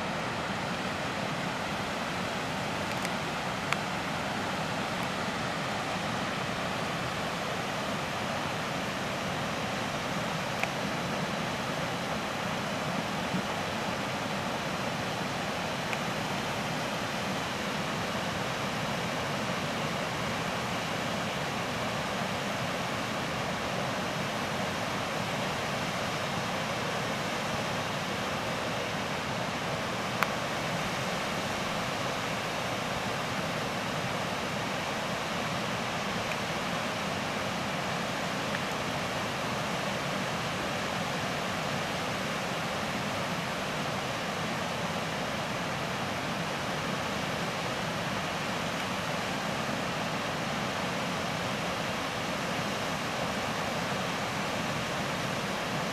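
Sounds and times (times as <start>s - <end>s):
floodwater rushing: 0.0s - 55.9s.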